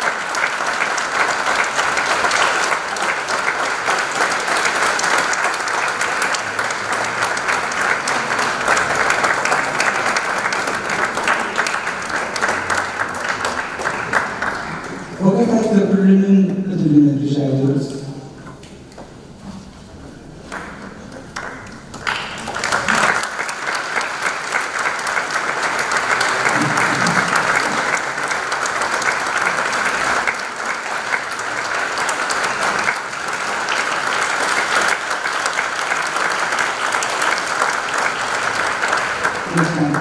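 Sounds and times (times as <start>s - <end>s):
audience applauding: 0.0s - 16.1s, 20.4s - 40.0s.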